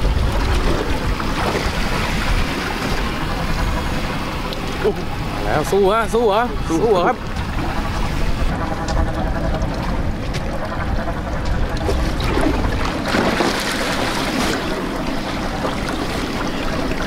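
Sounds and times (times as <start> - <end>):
choppy sea washing around boat: 0.0 - 17.0.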